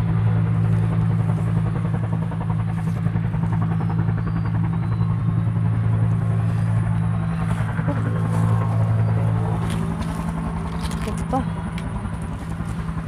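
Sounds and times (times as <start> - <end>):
motor droning: 0.0 - 13.0.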